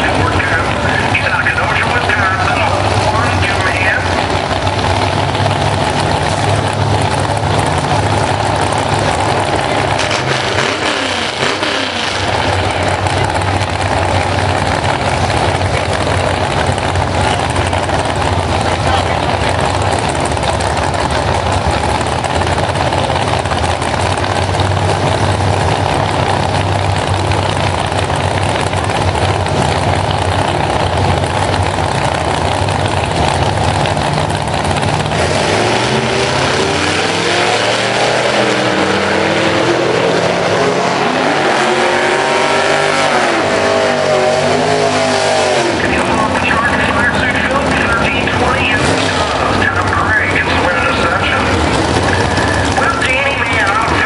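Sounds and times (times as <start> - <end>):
drag car engines running rough: 0.0 - 54.0
engines revving hard: 0.0 - 54.0
tyres spinning in burnout: 0.0 - 54.0.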